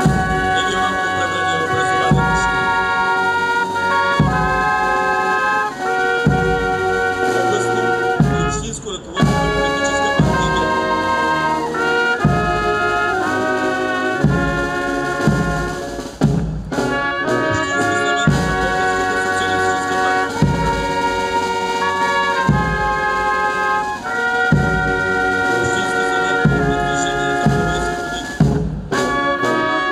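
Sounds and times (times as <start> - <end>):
drum strokes: 0.0 - 29.6
brass band playing slow chords: 0.0 - 29.9.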